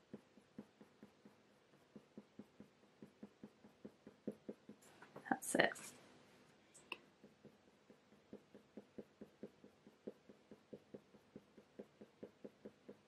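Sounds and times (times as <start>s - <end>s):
pencil ticking on paper: 0.0s - 5.2s, 6.8s - 13.0s.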